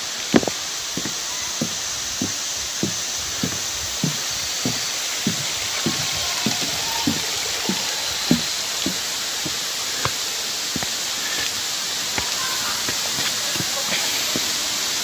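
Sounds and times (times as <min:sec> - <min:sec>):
footsteps on wooden boardwalk: 0:00.0 - 0:15.0
running water hiss: 0:00.0 - 0:15.0.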